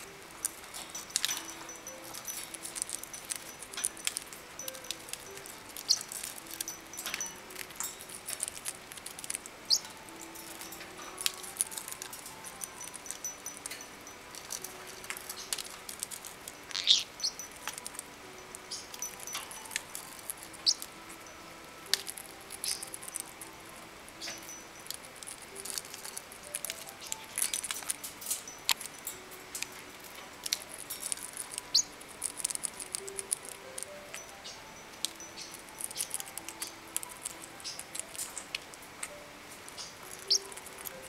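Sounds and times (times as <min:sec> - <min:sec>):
parrot chirps: 0:00.0 - 0:21.1, 0:21.9 - 0:41.0
beaks nibbling: 0:00.0 - 0:41.0.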